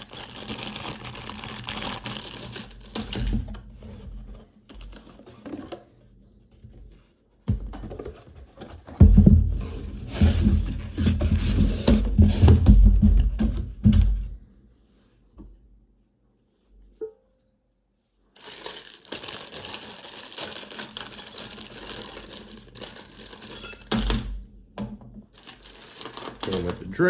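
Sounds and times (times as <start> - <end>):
rustling and knocks of unpacking: 0.0 - 14.4, 18.4 - 27.0.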